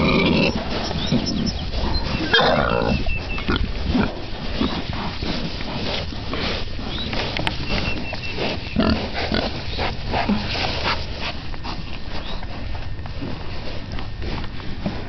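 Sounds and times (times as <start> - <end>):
pig grunting: 0.0 - 12.5.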